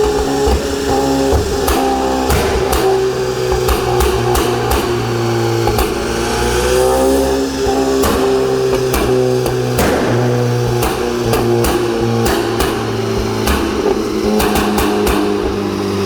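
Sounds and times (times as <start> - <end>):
exhaust pops and crackles: 0.0 - 6.2, 6.9 - 16.0
car engine revving: 0.0 - 16.0.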